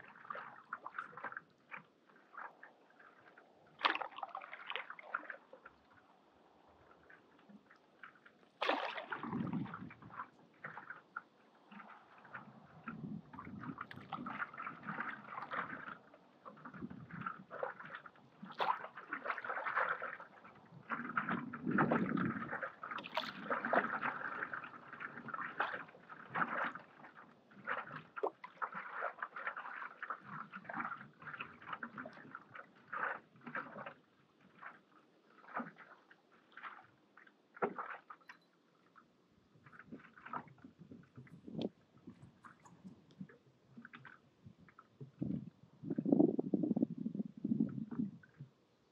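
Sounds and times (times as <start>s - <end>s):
paddle strokes through water: 0.0s - 48.9s.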